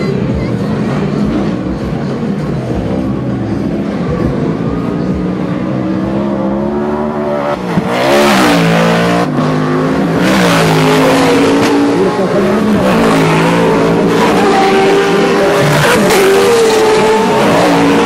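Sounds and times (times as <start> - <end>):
race truck engines revving: 0.0 - 18.0.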